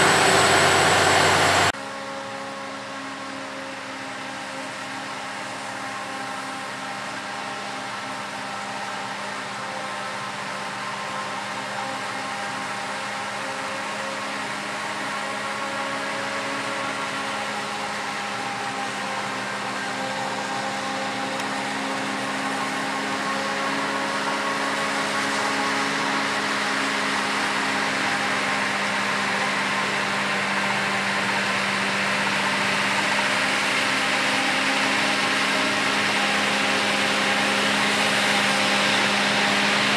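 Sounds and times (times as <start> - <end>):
tractor engine: 0.0 - 39.9.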